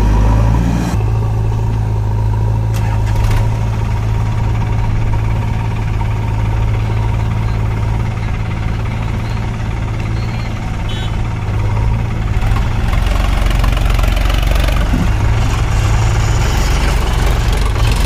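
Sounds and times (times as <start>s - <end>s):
backhoe diesel engine running: 0.0s - 18.0s
tractor diesel engine running: 0.0s - 18.0s.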